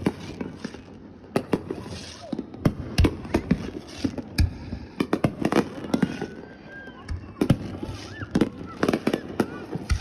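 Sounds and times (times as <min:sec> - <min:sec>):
faint firework whistles: 0:00.0 - 0:10.0
fireworks bangs and booms: 0:00.0 - 0:10.0.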